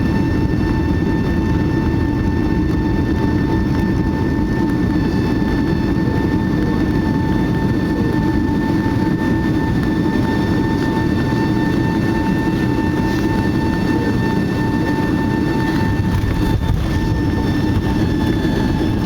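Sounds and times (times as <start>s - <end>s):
airliner cabin engine rumble: 0.0s - 19.0s
constant whine: 0.0s - 19.0s.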